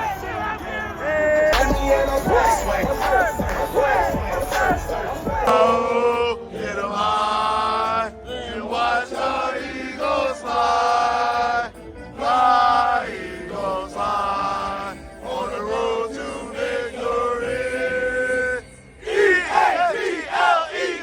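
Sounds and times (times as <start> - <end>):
choir singing held notes: 0.0 - 21.0.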